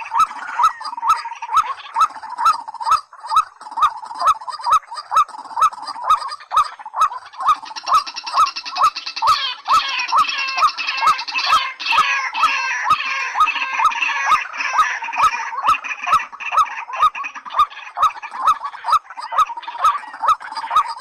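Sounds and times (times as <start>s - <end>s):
fast chattering bird call: 0.0s - 21.0s
rail bird calls: 0.0s - 21.0s.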